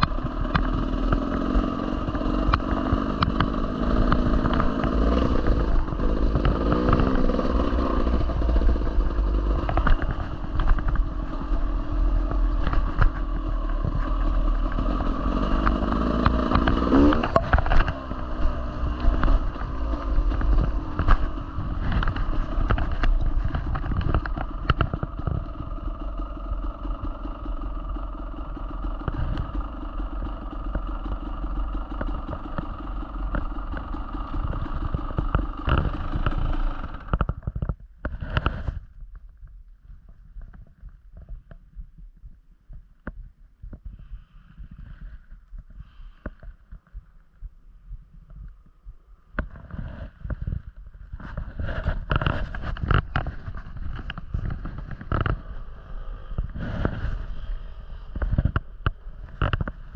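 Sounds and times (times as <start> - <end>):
engine rev: 0.0 - 38.8, 49.2 - 59.9
dirt bike engine running: 0.0 - 59.9.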